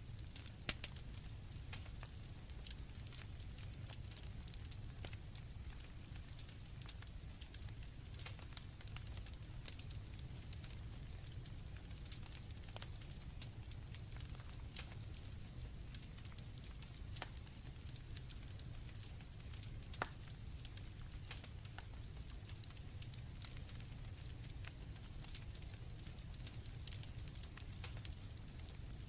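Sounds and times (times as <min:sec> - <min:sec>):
campfire crackling and popping: 0:00.0 - 0:29.0
fire cracking loudly: 0:00.0 - 0:29.0
crickets chirring: 0:01.1 - 0:29.0.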